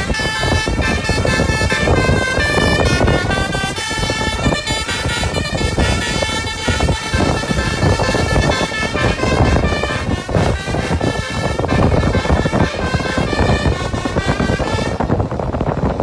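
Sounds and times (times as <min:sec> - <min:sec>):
bus engine noise: 0:00.0 - 0:16.0
multi-tone bus air horn tune: 0:00.0 - 0:16.0.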